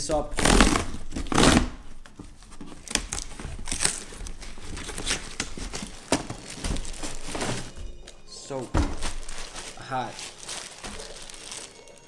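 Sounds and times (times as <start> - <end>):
packing tape ripping: 0.3 - 1.9, 2.8 - 7.8, 8.9 - 12.0
cardboard and paper rustling: 1.0 - 12.0.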